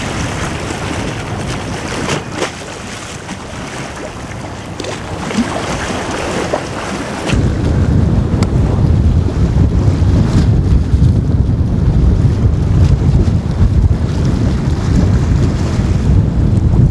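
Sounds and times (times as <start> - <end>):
waterfront background noise: 0.0 - 16.9
wind buffeting microphone: 0.0 - 16.9.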